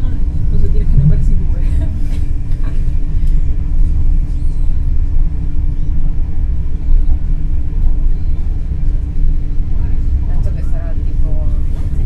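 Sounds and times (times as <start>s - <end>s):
steady hum: 0.0s - 12.0s
train cabin rumble: 0.0s - 12.0s.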